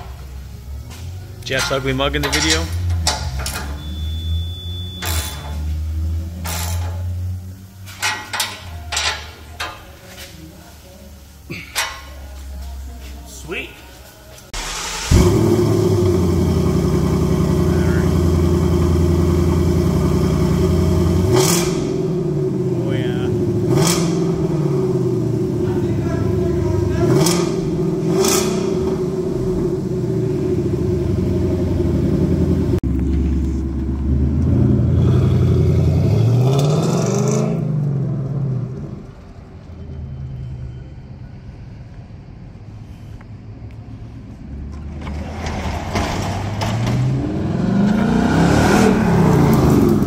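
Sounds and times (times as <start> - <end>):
car engine idling and revving: 0.0 - 9.6, 14.5 - 40.4, 41.2 - 50.0.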